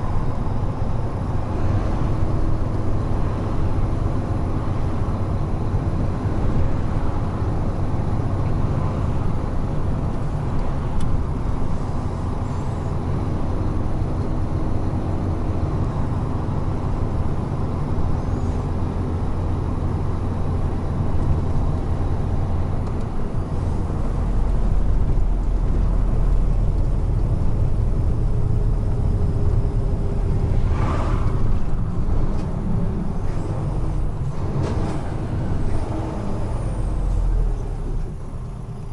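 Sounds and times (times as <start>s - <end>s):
truck engine and tyre drone: 0.0s - 38.9s.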